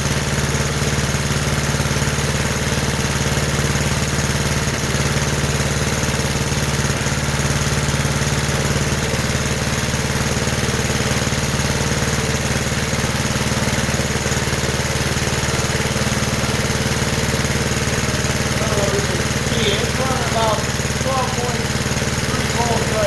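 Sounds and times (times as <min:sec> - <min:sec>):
small gasoline engine running: 0:00.0 - 0:23.0.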